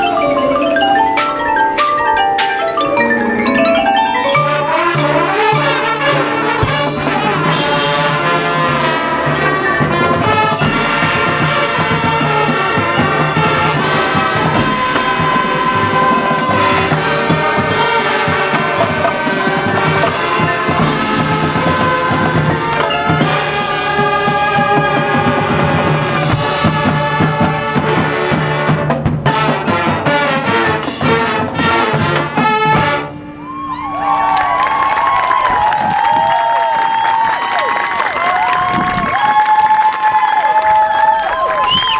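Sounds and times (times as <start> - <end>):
drums: 0.0 - 41.9
school band brass music: 0.0 - 41.9
crowd cheering: 1.1 - 26.5, 33.3 - 41.9.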